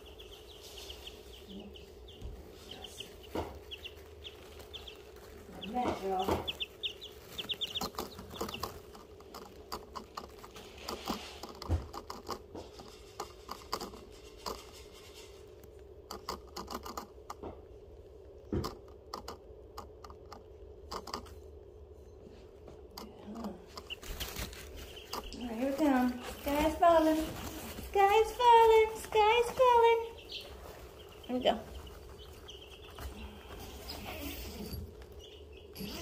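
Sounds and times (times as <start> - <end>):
chicks peeping: 0.0 - 15.5, 22.2 - 36.0
chicks pecking in wood shavings: 0.0 - 36.0.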